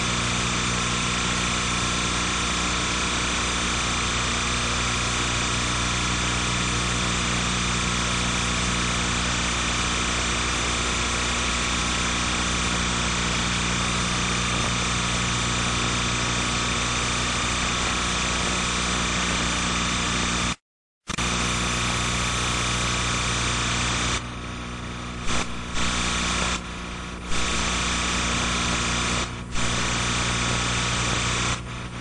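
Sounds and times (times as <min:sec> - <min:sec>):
electrical hum with hiss: 0:00.0 - 0:20.5, 0:21.2 - 0:32.0.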